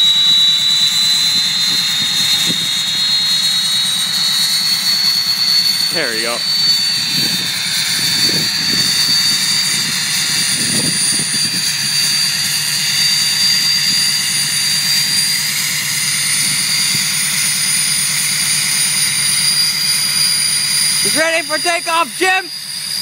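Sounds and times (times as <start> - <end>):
turbocharger whistle: 0.0 - 23.0.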